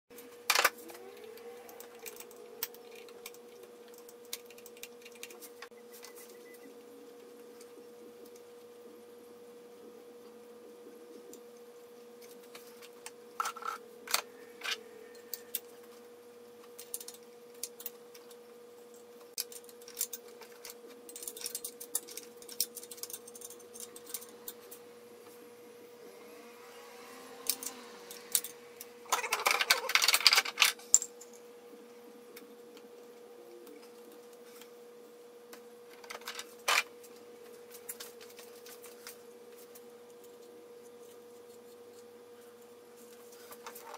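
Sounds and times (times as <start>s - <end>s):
steady hum: 0.1s - 43.9s.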